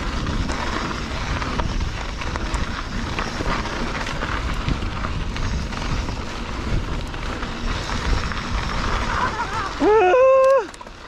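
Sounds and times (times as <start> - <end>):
bike clicks and rattles: 0.0 - 11.0
tyres crunching on gravel: 0.0 - 11.0
wind rumble on microphone: 0.0 - 11.0.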